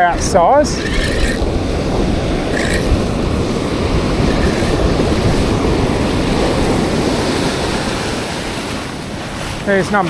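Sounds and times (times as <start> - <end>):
surf breaking: 0.0 - 10.0
wind rumbling on microphone: 0.0 - 10.0.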